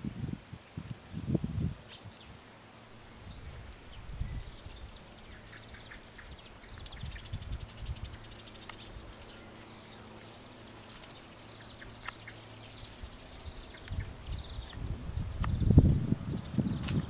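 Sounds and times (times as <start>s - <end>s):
low steady hum: 0.0s - 16.8s.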